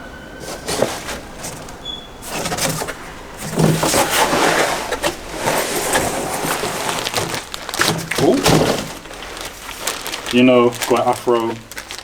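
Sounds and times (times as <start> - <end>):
packaging crackling rustle: 0.3 - 12.0
packaging clicks: 0.4 - 12.0.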